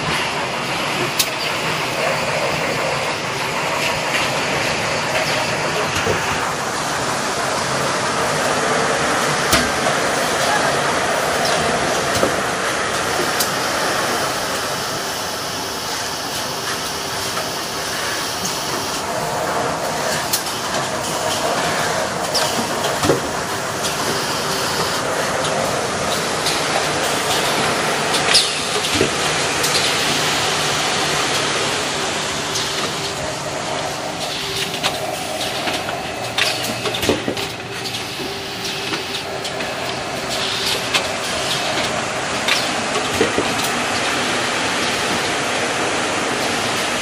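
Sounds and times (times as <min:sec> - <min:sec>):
machine whir and hiss: 0:00.0 - 0:47.0.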